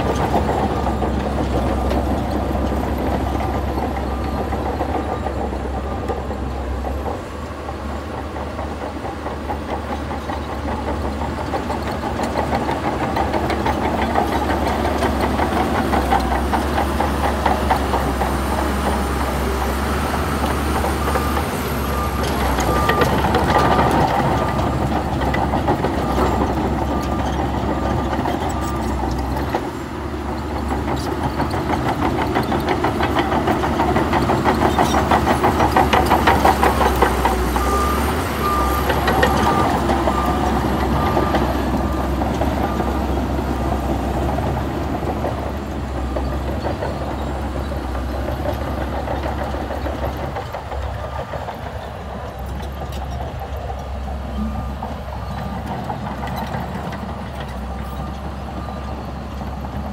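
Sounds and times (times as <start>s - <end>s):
bulldozer diesel engine under load: 0.0s - 59.9s
steel tracks clattering: 0.0s - 59.9s.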